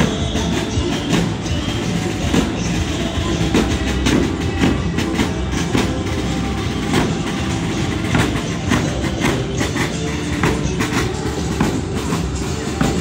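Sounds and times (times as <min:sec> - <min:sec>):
bass drum beating: 0:00.0 - 0:13.0.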